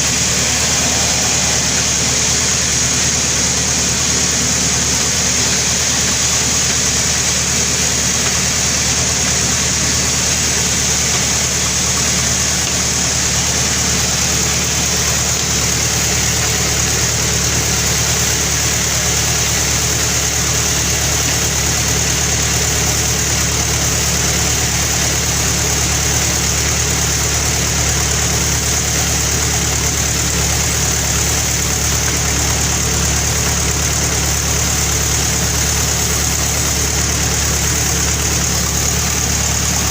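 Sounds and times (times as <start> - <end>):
constant high hiss: 0.0 - 39.9
low engine drone: 0.0 - 39.9.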